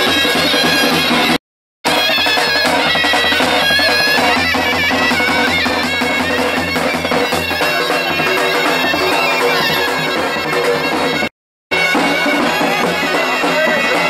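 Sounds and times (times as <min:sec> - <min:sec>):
drum beats: 0:00.0 - 0:14.0
shrill shawm melody: 0:00.0 - 0:14.0.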